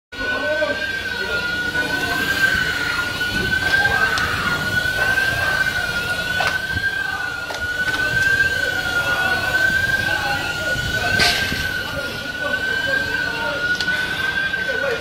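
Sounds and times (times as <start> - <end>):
high wavering alarm tone: 0.2 - 15.0.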